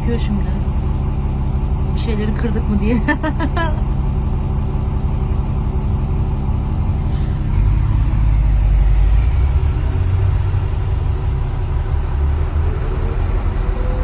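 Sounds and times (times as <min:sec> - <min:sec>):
truck diesel engine rumble: 0:00.0 - 0:14.0.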